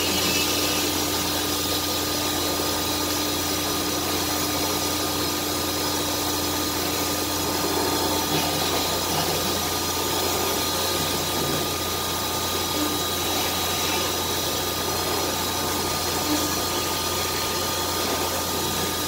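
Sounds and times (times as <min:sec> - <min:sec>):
router machine hum and whine: 0:00.0 - 0:19.0.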